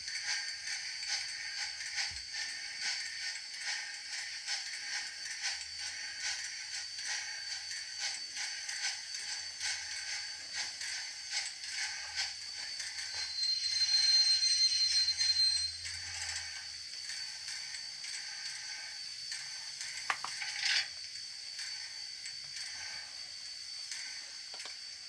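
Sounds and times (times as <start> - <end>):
model train mechanical clicking: 0.0 - 25.0.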